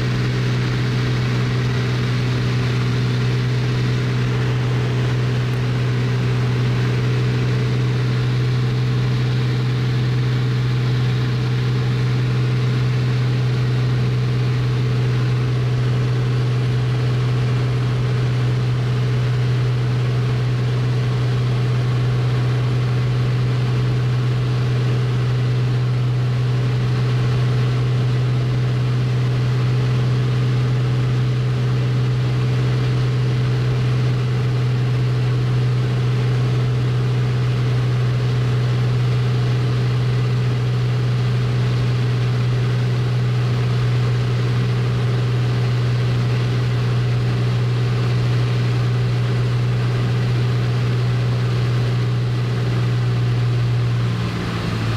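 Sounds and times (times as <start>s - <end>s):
propeller plane engine droning: 0.0s - 54.9s.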